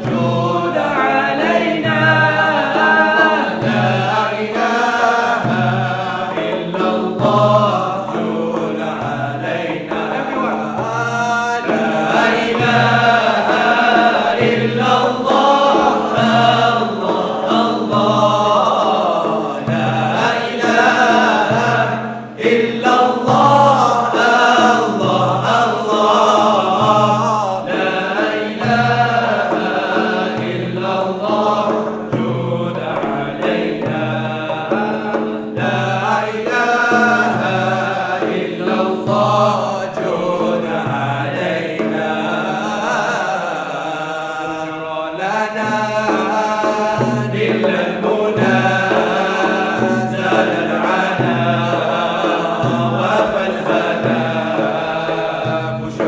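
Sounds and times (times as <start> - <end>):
frame drums beating: 0.0 - 56.0
men singing a chant: 0.0 - 56.0.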